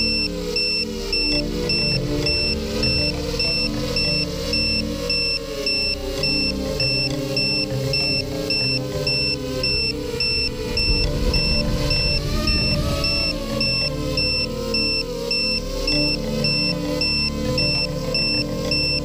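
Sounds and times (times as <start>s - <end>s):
high repeating electronic beep: 0.0s - 19.0s
low bass line: 0.0s - 19.0s.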